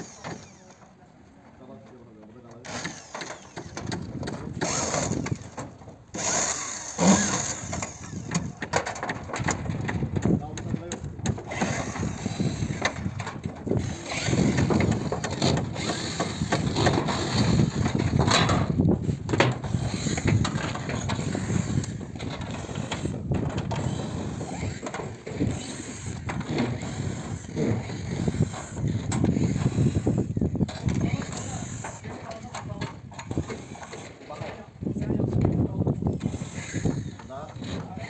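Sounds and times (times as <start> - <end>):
metal roof tiles rattling: 1.7 - 35.6.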